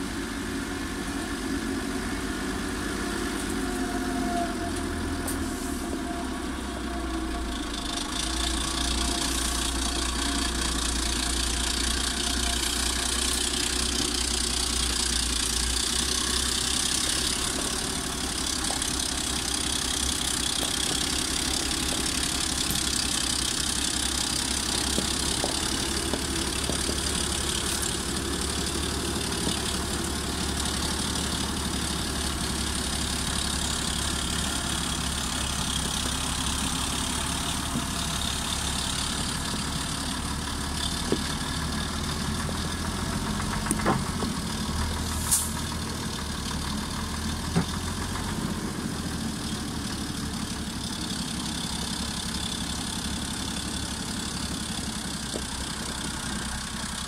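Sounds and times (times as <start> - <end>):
diesel truck engine at low revs: 0.0 - 57.0.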